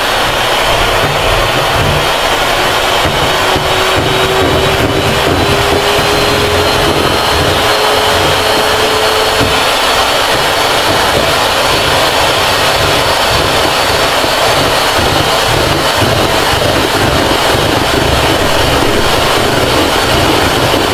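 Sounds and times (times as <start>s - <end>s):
electric hand mixer whipping cream: 0.0s - 20.9s.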